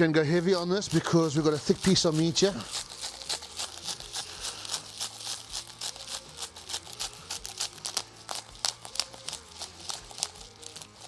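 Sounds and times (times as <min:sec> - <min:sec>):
spice dispenser rattling: 0:00.4 - 0:11.0.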